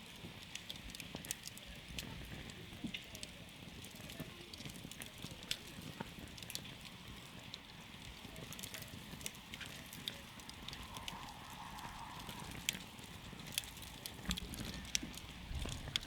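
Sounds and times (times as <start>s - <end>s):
campfire flame rushing: 0.0s - 16.0s
fire crackling and popping: 0.0s - 16.0s.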